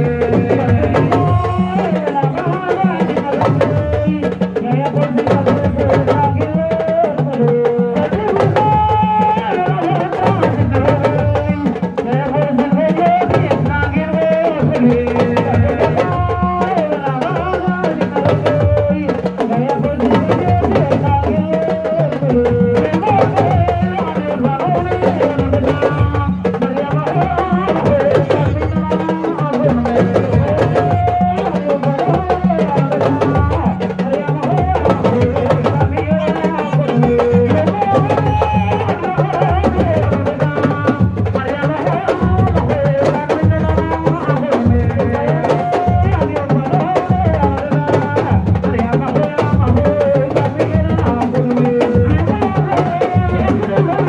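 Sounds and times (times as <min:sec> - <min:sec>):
music with drums and percussion: 0:00.0 - 0:54.0.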